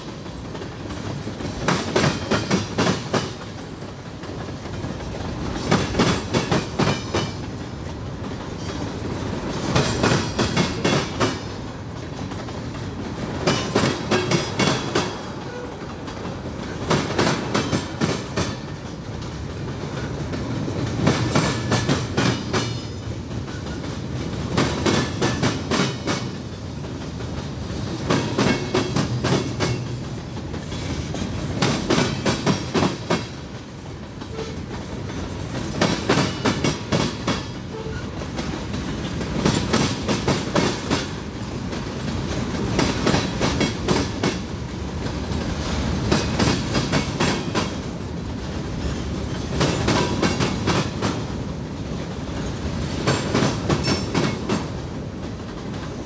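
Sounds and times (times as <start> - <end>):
train wheels clacking over rail joints: 0.0 - 51.4, 52.1 - 56.0
rumble of passing freight cars: 0.0 - 56.0.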